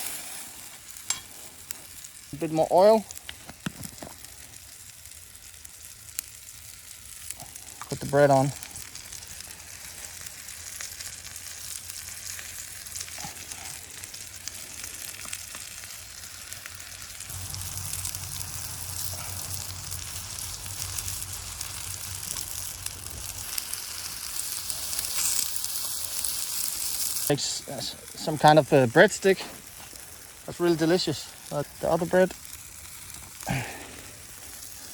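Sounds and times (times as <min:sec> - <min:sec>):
bread sizzling in oil: 0:00.0 - 0:34.9.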